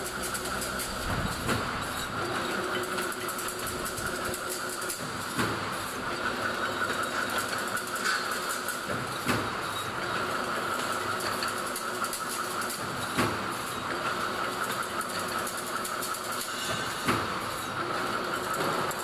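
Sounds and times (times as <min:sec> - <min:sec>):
fence machine whine and rattle: 0:00.0 - 0:19.0.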